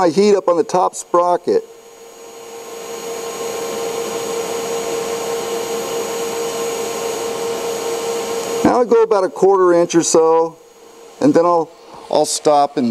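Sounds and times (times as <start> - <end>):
steady hum: 0.0 - 12.9
welding arc hissing: 0.0 - 12.9.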